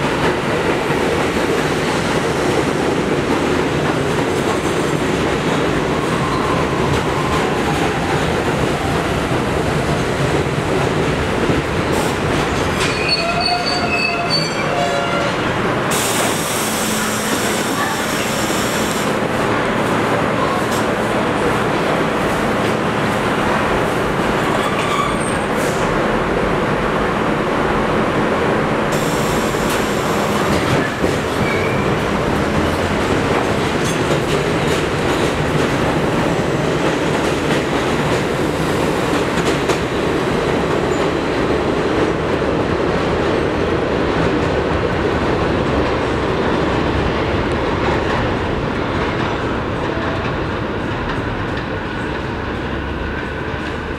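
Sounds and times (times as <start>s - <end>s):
subway train running past: 0.0s - 53.9s.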